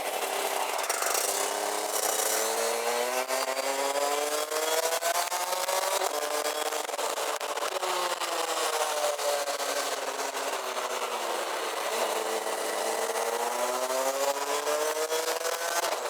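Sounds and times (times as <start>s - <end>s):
two-stroke kart engine revving: 0.0s - 16.0s.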